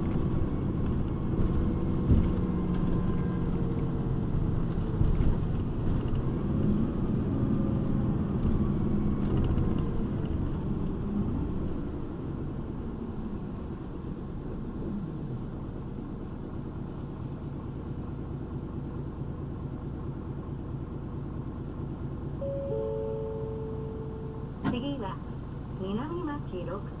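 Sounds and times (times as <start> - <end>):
bus engine: 0.0 - 27.0
road noise: 0.0 - 27.0.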